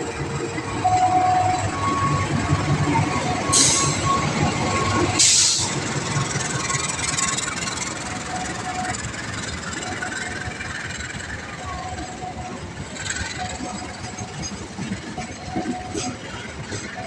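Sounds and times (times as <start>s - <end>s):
crossing warning alarm: 0.0s - 17.0s
train rumbling past: 0.0s - 17.0s.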